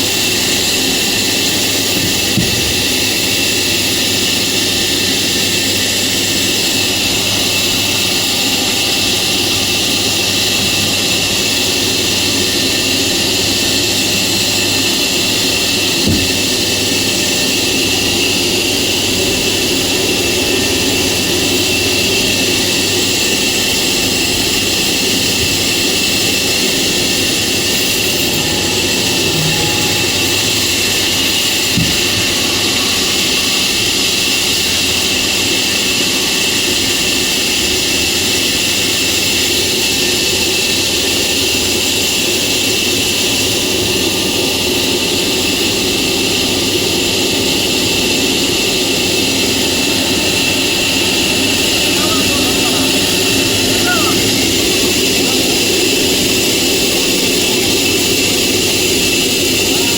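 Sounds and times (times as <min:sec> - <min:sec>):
sawmill machinery hiss and whir: 0:00.0 - 0:59.9.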